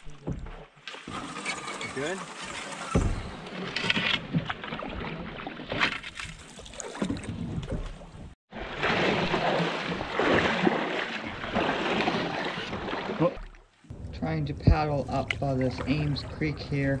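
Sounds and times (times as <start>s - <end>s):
paddle splashing in water: 0.0s - 13.9s
water splashing and swishing: 0.0s - 17.0s.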